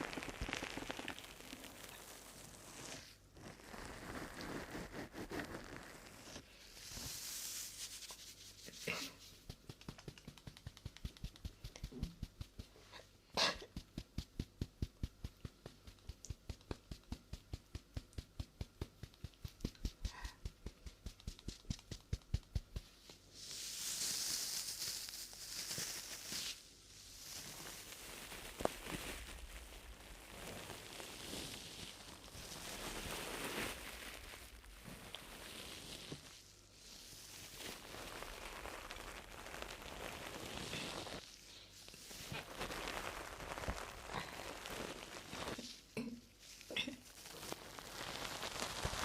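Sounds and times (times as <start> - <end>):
hissy brushing: 0.0 - 49.0
soft rustling: 0.0 - 49.0.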